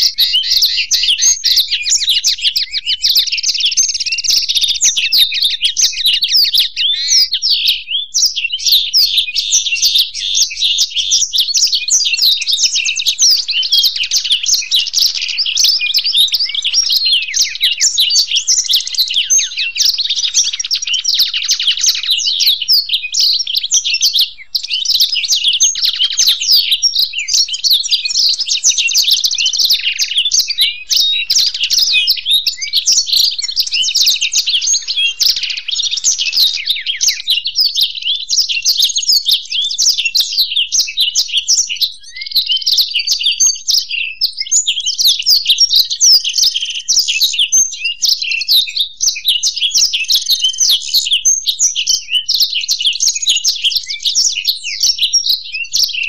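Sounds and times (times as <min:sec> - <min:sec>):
birds twittering song: 0:00.0 - 0:56.0.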